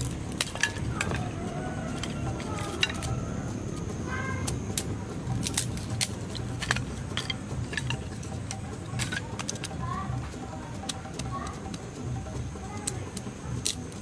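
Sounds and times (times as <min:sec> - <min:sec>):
twigs snapping: 0:00.0 - 0:09.8, 0:10.7 - 0:12.0, 0:12.8 - 0:14.0.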